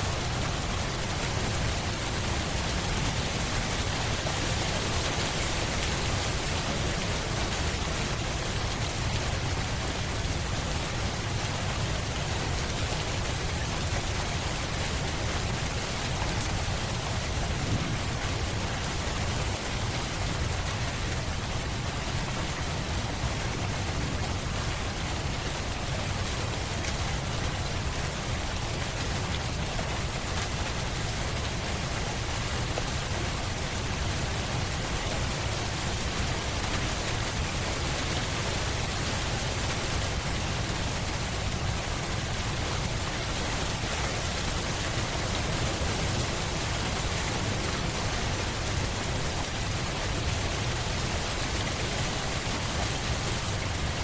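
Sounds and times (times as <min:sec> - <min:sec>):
rain hissing on a surface: 0:00.0 - 0:54.0.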